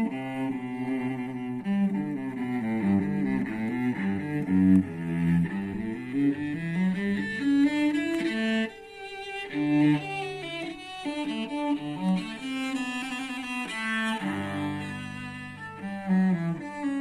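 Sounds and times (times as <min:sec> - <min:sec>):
cello playing bowed notes: 0:00.0 - 0:17.0.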